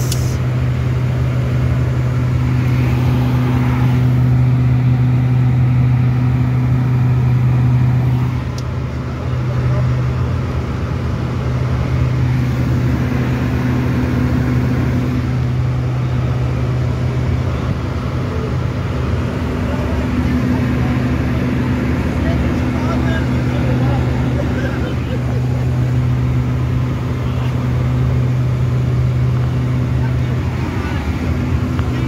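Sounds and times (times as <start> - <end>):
turboprop engines droning in cabin: 0.0 - 32.0.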